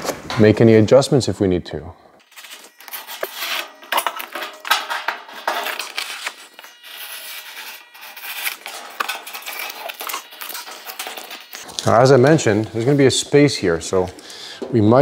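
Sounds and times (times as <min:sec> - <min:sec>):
tape crinkling and scratching: 0:02.2 - 0:14.4.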